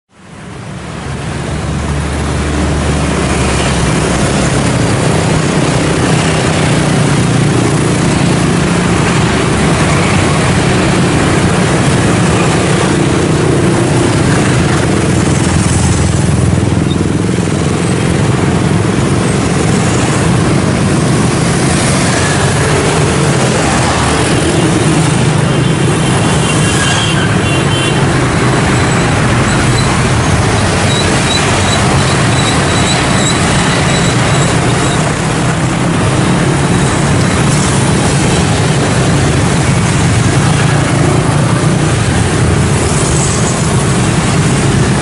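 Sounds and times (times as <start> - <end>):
motorcycles and scooters: 0.1 - 45.0
cars passing: 0.2 - 45.0.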